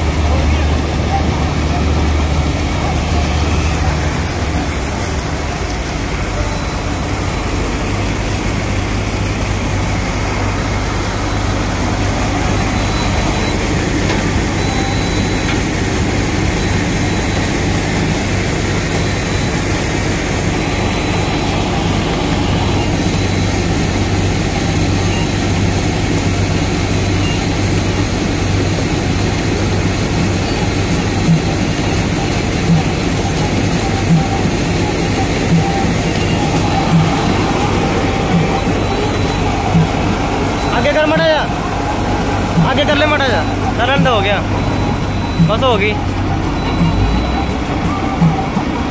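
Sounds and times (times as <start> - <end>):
combine harvester droning: 0.0 - 48.9.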